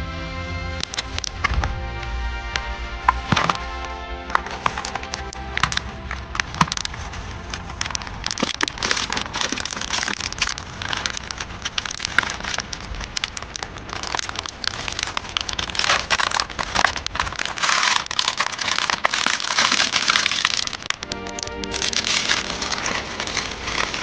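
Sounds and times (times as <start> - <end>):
foil pot crackling: 0.8 - 24.0
plastic packaging crinkling: 0.8 - 24.0.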